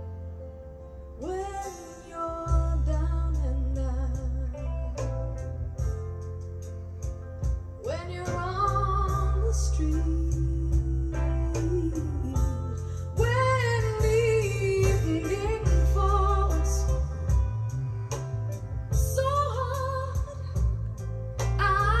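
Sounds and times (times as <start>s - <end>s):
song with singing and strong bass: 1.1s - 6.0s, 7.4s - 22.0s.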